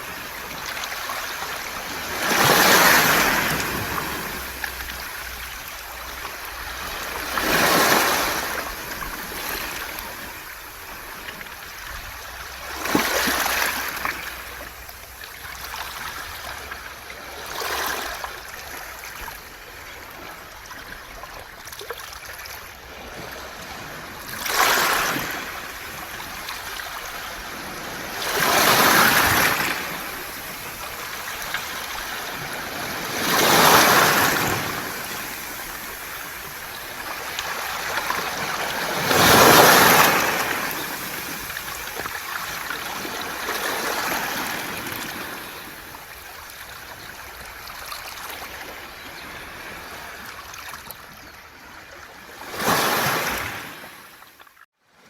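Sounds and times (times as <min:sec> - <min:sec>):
waves washing over pebbles: 0:00.0 - 0:20.6, 0:21.7 - 0:49.0.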